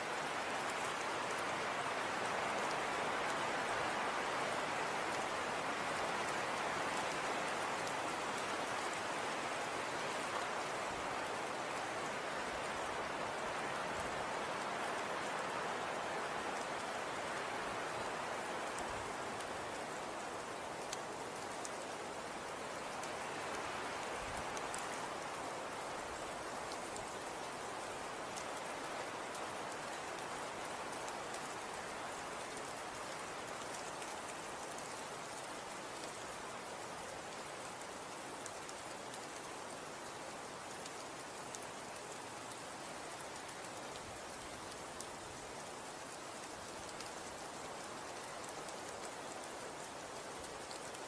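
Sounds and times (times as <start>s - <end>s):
faint small ticks: 0.0s - 51.0s.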